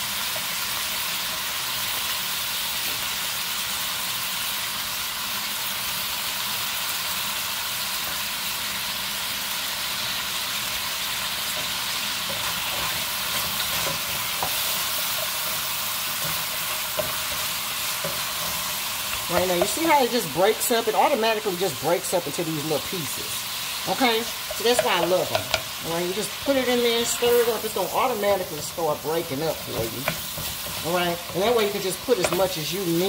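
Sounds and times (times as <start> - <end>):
beef and onions sizzling in skillet: 0.0 - 33.0.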